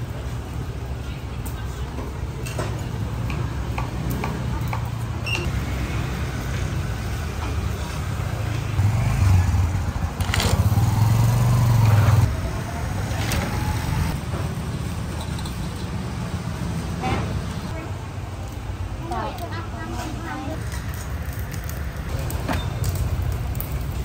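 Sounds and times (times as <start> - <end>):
motorbike engines: 0.0 - 24.0
street traffic: 0.0 - 24.0.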